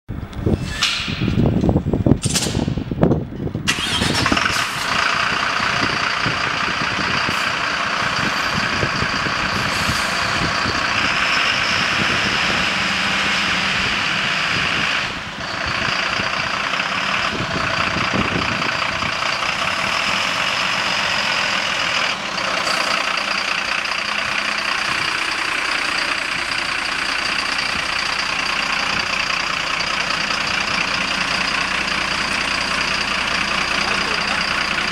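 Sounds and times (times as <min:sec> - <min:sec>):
diesel truck engine starting and idling: 0:00.1 - 0:34.9.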